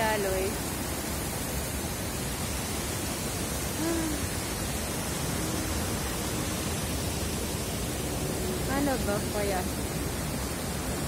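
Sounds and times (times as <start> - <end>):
water rushing over cascade: 0.0 - 11.0.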